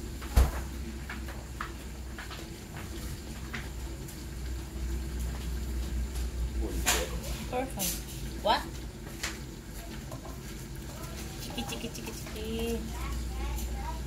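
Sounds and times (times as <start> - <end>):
chicken sizzling in a covered pan: 0.0 - 14.0.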